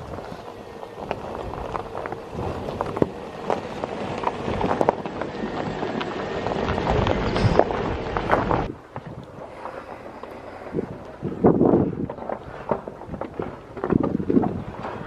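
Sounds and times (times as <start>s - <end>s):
wind on microphone: 0.0s - 5.6s, 6.2s - 15.0s
rocks crunching under tyres: 0.0s - 15.0s
vehicle engine: 0.0s - 15.0s.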